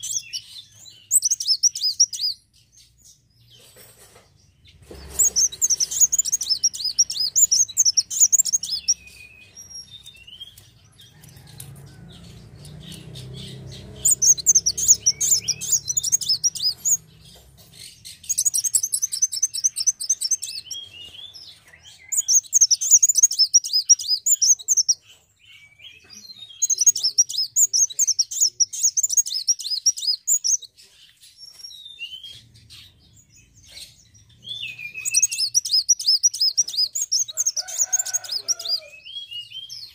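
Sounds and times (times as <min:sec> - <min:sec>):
bird twittering: 0:00.0 - 0:02.5, 0:04.8 - 0:25.0, 0:25.6 - 0:30.7, 0:34.4 - 0:39.5.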